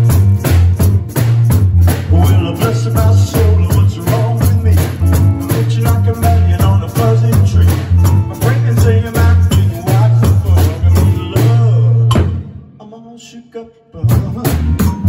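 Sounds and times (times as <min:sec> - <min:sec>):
pulsing bass line: 0:00.0 - 0:12.3, 0:14.0 - 0:15.0
percussion: 0:00.0 - 0:12.6, 0:14.0 - 0:15.0.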